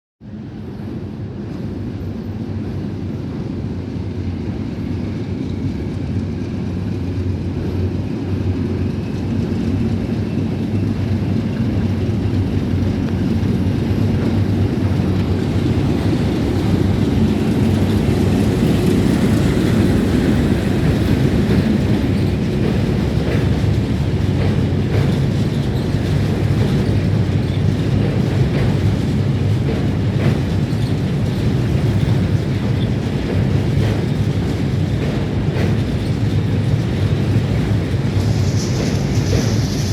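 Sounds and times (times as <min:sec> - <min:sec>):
locomotive engine drone: 0:00.3 - 0:39.9.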